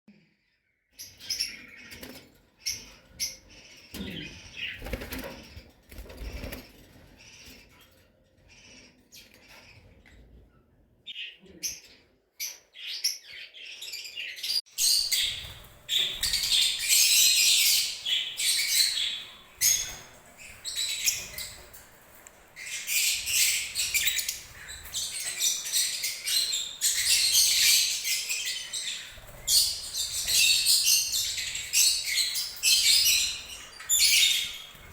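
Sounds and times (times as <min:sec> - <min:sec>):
parrots chirping and chattering: 0:01.0 - 0:34.9.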